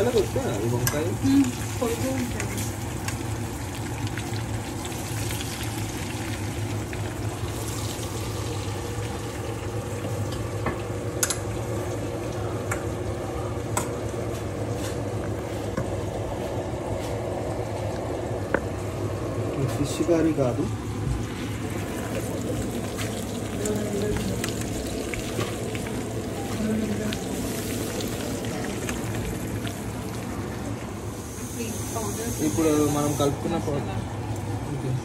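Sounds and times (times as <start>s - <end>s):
food sizzling in oil: 0.0s - 16.9s, 17.6s - 35.0s
low steady hum: 0.0s - 35.0s.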